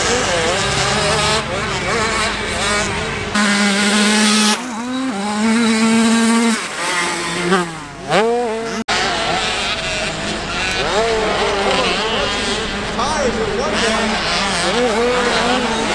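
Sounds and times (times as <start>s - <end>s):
motocross bike engines revving: 0.0s - 15.9s.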